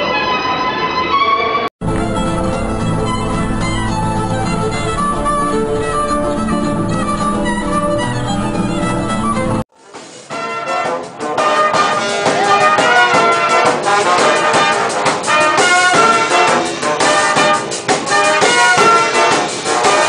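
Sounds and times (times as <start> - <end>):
brass instruments playing fast tune: 1.8 - 9.6, 10.3 - 20.0.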